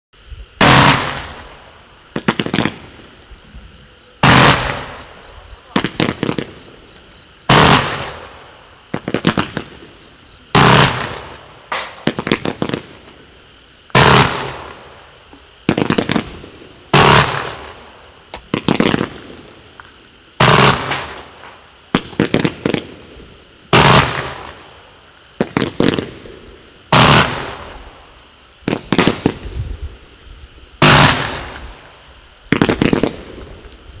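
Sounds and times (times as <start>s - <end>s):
firework bangs: 0.5s - 3.4s, 4.2s - 33.9s
smaller firework pops: 0.6s - 3.1s, 4.2s - 27.9s, 28.6s - 29.9s, 30.8s - 33.9s.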